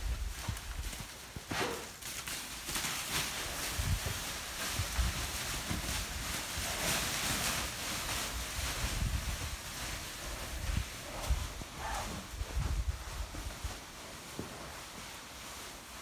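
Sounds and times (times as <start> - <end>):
wind rustling over microphone: 0.0 - 2.0, 2.6 - 14.2.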